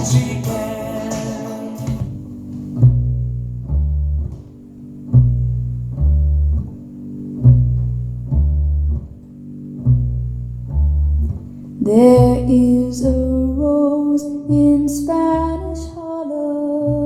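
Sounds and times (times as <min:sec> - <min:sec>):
double bass plucking: 0:00.0 - 0:17.0.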